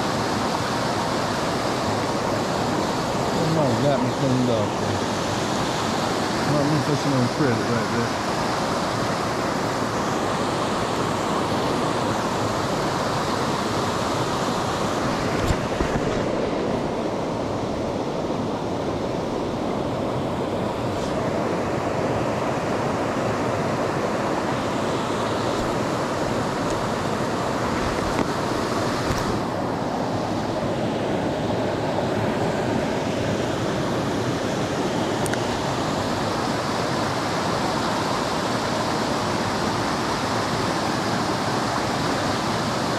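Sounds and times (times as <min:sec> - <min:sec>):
creek water rushing over rocks: 0:00.0 - 0:42.9.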